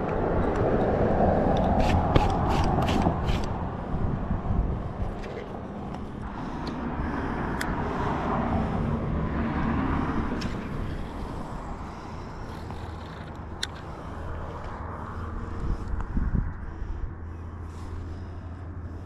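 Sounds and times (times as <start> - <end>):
vehicle passing with tyre noise: 0.0 - 19.0.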